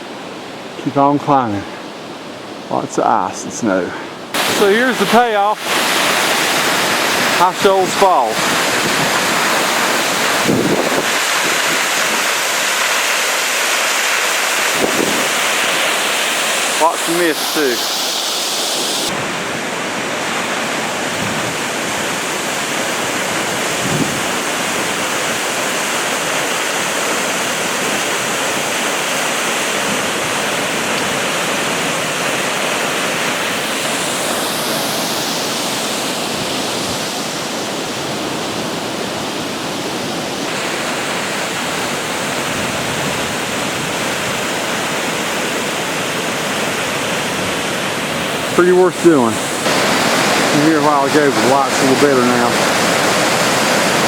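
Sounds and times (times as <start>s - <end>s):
waterfall roaring: 4.3s - 54.0s.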